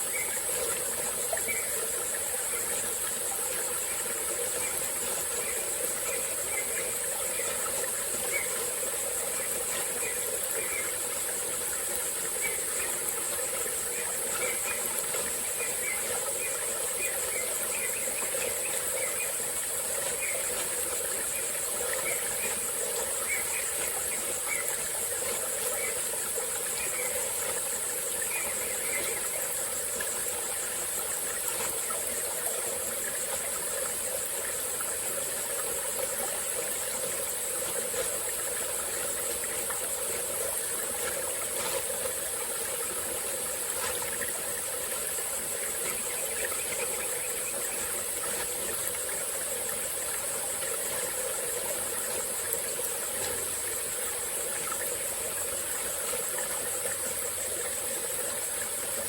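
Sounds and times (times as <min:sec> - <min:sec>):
insects droning: 0:00.0 - 0:59.0
stream flowing: 0:00.0 - 0:59.0.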